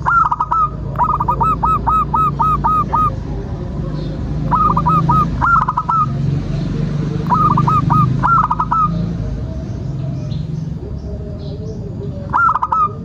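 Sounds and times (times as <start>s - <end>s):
dove cooing: 0.0s - 13.0s
steady low hum: 0.0s - 13.0s.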